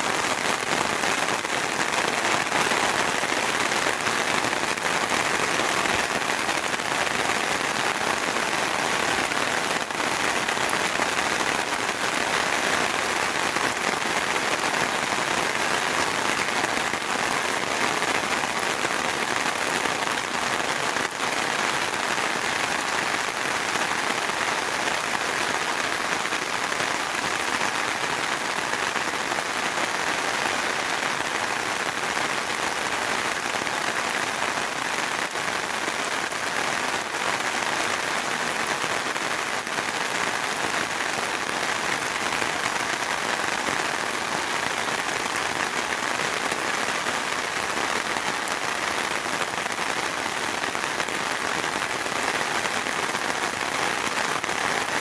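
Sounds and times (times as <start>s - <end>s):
heavy rain on grass and canopy: 0.0s - 55.0s.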